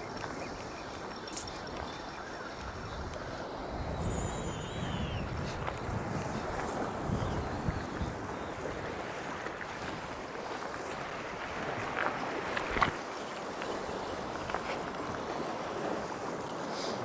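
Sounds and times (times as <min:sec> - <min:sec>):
sea waves breaking on rocks: 0:00.0 - 0:17.0.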